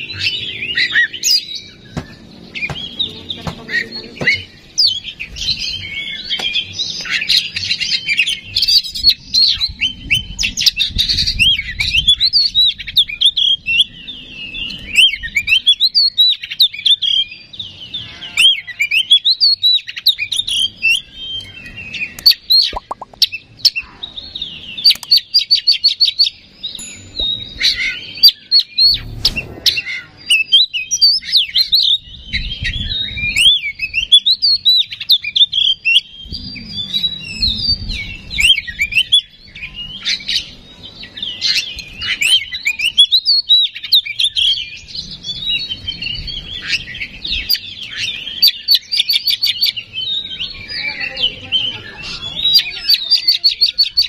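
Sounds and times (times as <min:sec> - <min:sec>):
magpie-robin singing: 0:00.0 - 0:54.0.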